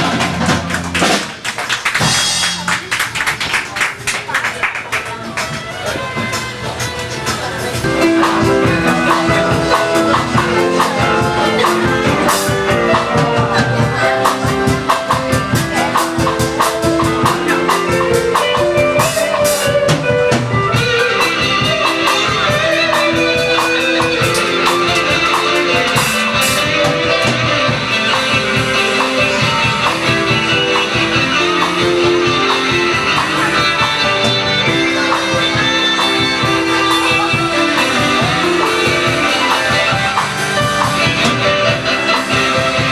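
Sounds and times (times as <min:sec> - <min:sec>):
instrumental band playing: 0:00.0 - 0:42.9.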